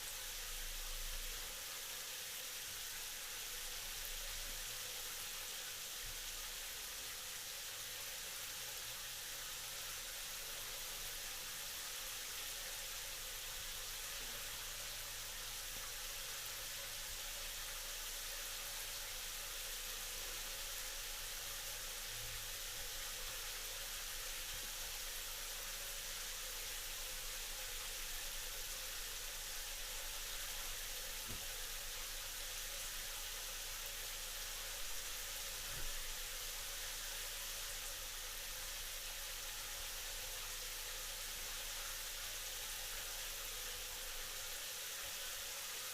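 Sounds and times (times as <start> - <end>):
shower water spray hissing: 0.0 - 45.9.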